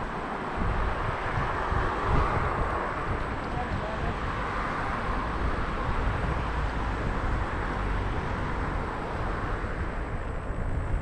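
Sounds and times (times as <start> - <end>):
wheels rolling on pavement: 0.0 - 11.0.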